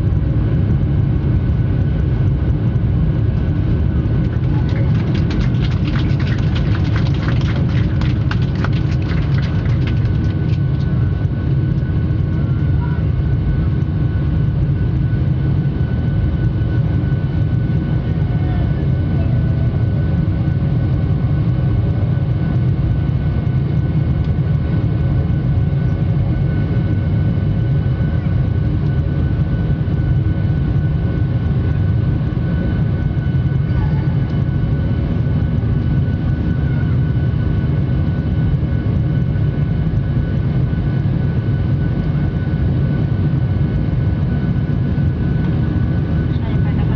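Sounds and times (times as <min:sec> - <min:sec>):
jet engine rumble in cabin: 0:00.0 - 0:46.9.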